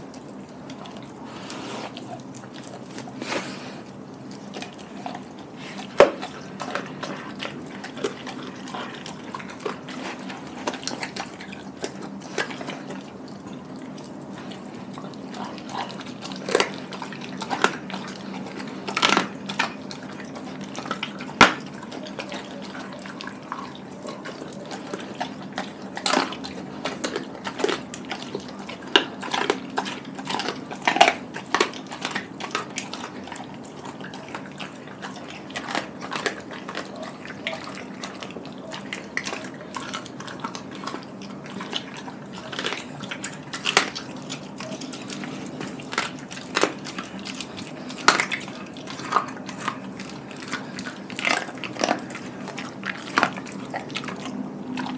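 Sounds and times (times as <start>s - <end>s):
dog chewing and crunching bones: 0.0s - 54.9s
steady low hum: 0.0s - 54.9s.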